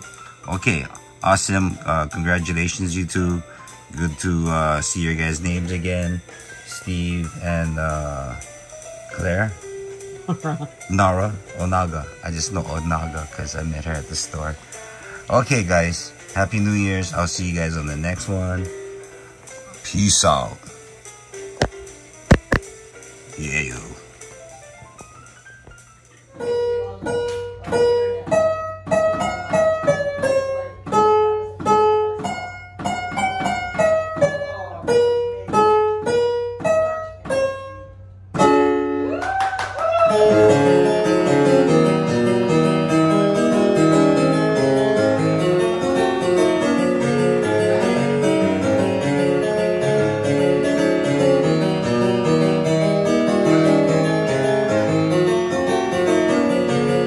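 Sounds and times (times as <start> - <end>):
dense keyboard chords: 0.0 - 37.5, 40.1 - 57.0
electronic keyboard notes: 0.0 - 39.1, 40.1 - 57.0.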